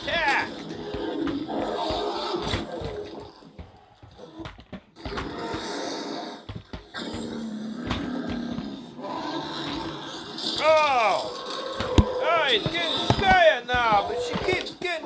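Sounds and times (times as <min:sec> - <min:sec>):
plastic toys knocking: 0:00.0 - 0:15.0.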